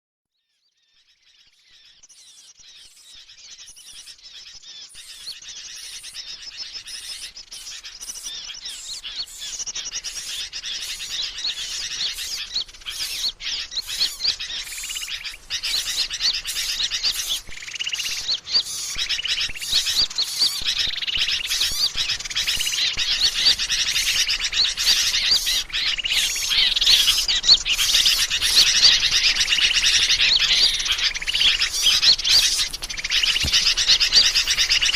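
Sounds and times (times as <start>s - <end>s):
chorus of small birds chirping: 0.3s - 34.9s.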